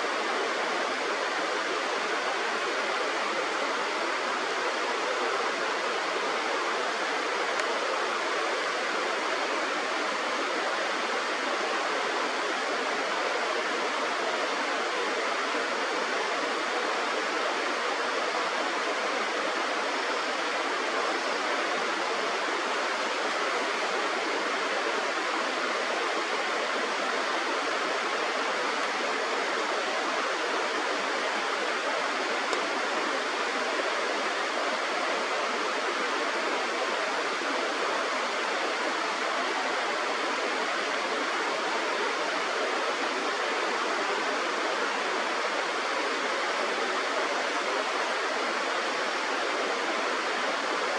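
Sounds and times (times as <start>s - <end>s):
flowing river water: 0.0s - 50.9s.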